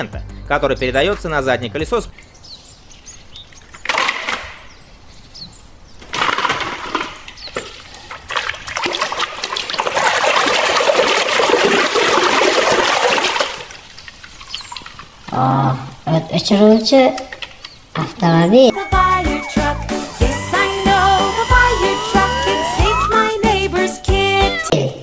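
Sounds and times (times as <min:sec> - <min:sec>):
water splashing and running: 0:02.1 - 0:23.9.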